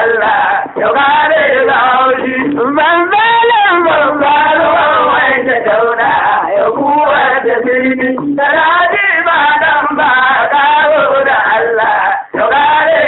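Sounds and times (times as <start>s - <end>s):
voices chanting a song: 0.0s - 13.0s.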